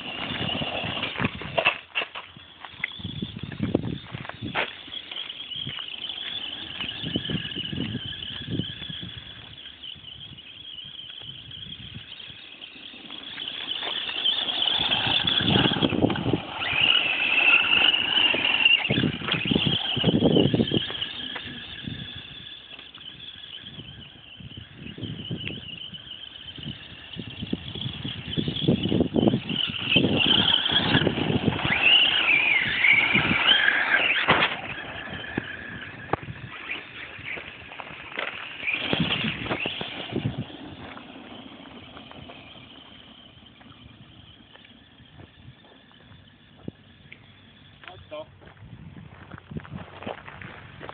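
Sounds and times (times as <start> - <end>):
model buggy motor whining: 0.0 - 50.9
tyres crunching on gravel: 0.0 - 50.9.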